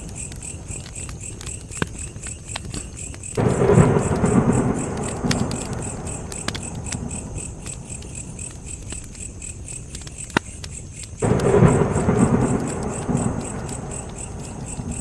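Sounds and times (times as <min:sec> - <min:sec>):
crickets chirping: 0:00.0 - 0:15.0
wood fire crackling and popping: 0:00.0 - 0:15.0.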